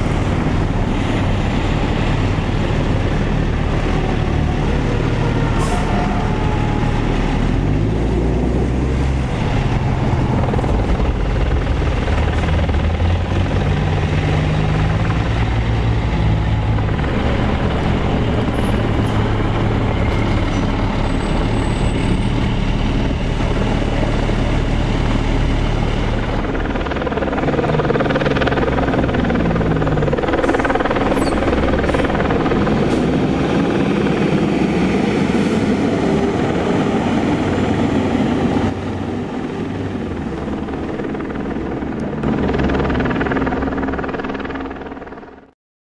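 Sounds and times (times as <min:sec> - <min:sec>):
heavy diesel engines running: 0:00.0 - 0:45.5.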